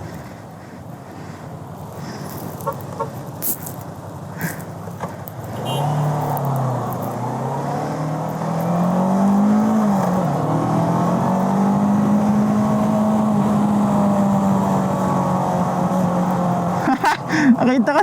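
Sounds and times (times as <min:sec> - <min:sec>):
motorcycle engine accelerating: 0:01.2 - 0:17.0.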